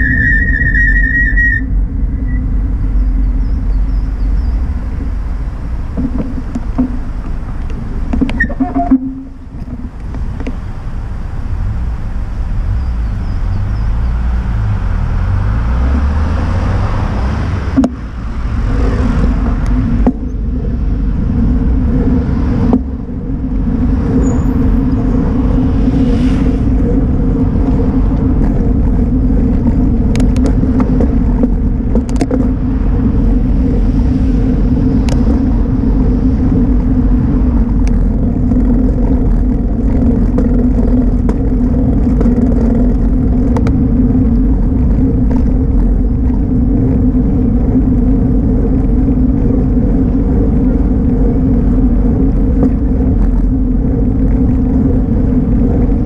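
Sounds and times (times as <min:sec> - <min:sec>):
bicycle rolling on asphalt: 0:00.0 - 0:56.0
car engine: 0:00.0 - 0:56.0
steady low hum: 0:01.6 - 0:56.0.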